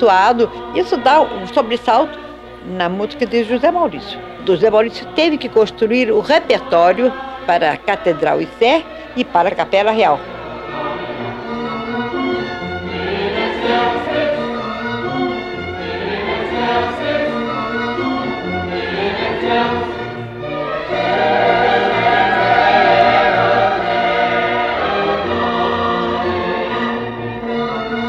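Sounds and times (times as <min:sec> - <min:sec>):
mixed choir singing: 0:00.2 - 0:28.0.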